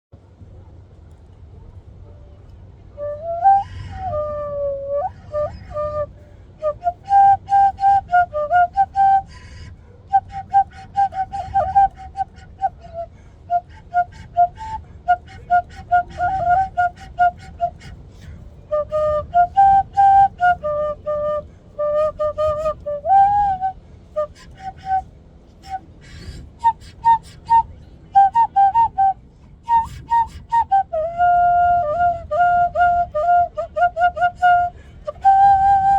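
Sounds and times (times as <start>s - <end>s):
cane flute melody: 1.6s - 35.9s.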